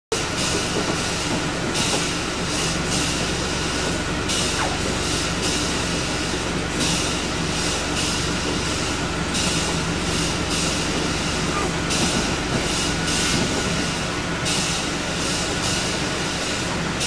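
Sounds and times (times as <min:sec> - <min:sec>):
bus engine idling: 0:00.1 - 0:17.0.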